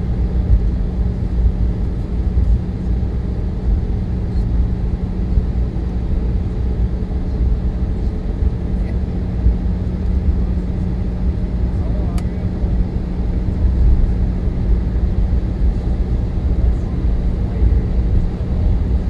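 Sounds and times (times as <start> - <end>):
jet airliner cabin rumble: 0.0 - 19.0.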